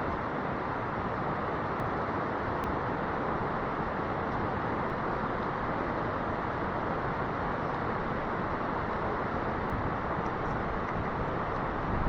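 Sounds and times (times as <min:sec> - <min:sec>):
creek rushing: 0:00.0 - 0:12.0.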